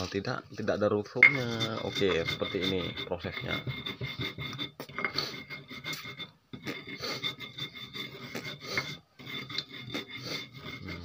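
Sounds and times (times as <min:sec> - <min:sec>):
salt grinding on stone: 0:00.0 - 0:11.0.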